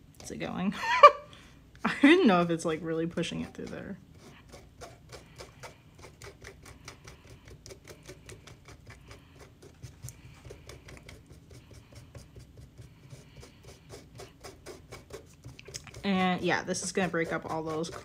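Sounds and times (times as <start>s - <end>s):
spatula scraping through sieve: 2.2s - 18.0s.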